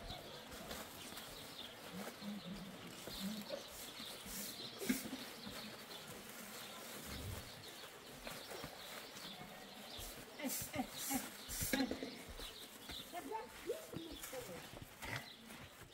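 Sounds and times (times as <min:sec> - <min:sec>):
footsteps scuffing on dirt path: 0:00.0 - 0:15.9.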